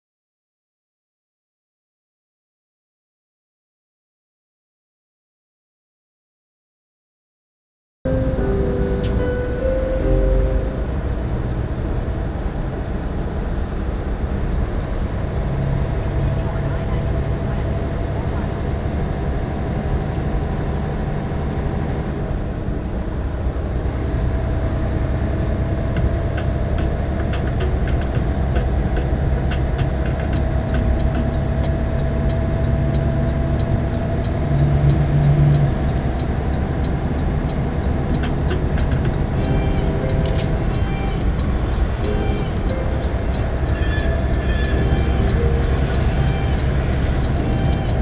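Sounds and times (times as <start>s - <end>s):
diesel engine drone: 8.1s - 48.0s
road and tyre noise: 8.1s - 48.0s.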